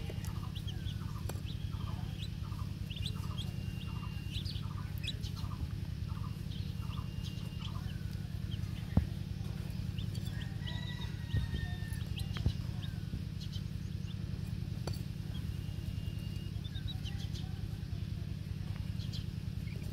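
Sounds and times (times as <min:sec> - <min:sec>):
chicks peeping: 0:00.0 - 0:19.9
steady low hum: 0:00.0 - 0:19.9.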